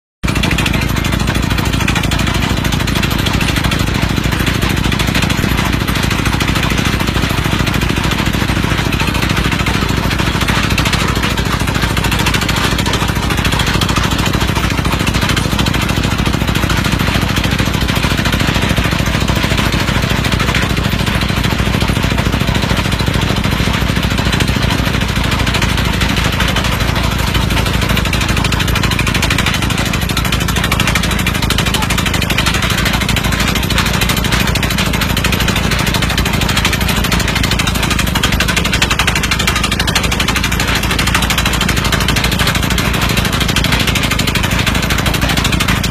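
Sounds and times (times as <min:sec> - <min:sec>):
drilling rig hammering rock: 0:00.2 - 0:45.9.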